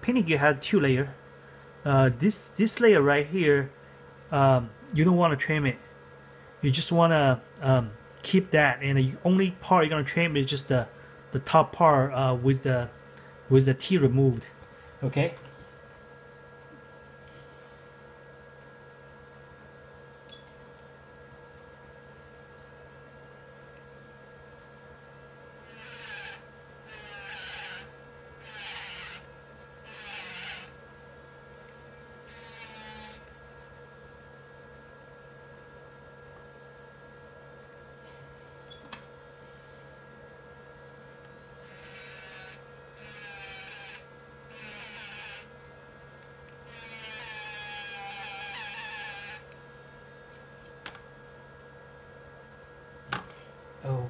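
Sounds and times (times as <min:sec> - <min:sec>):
steady motor hum: 0:00.0 - 0:54.0.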